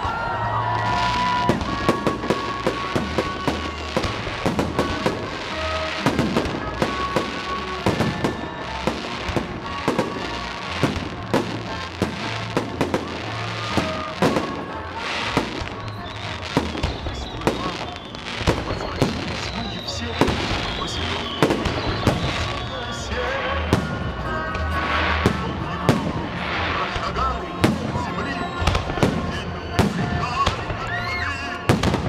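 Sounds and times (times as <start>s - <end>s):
fireworks bangs and crackling: 0.0s - 32.0s
music playing: 0.0s - 32.0s.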